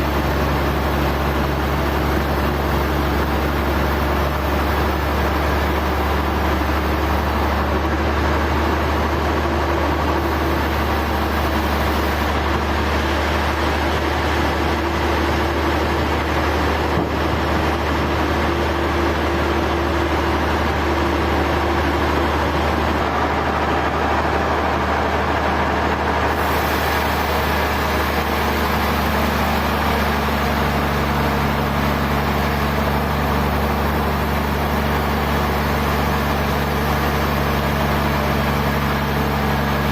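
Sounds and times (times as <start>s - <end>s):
low engine hum: 0.0s - 39.9s
sawmill machinery running: 0.0s - 39.9s.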